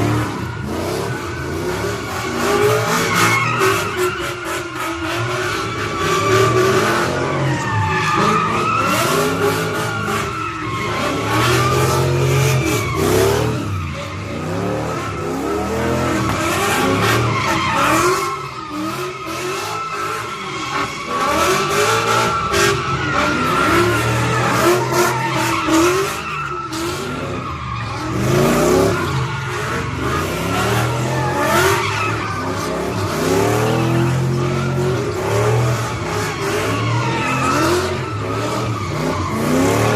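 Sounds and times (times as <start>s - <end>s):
car engine revving: 0.0s - 39.9s
tyres squealing: 0.4s - 39.9s.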